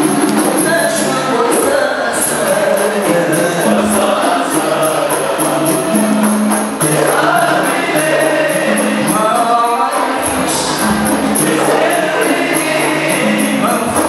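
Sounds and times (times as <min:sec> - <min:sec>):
boys singing: 0:00.0 - 0:14.0
frame drums beating: 0:00.0 - 0:14.0
tambourine jingles: 0:00.0 - 0:14.0.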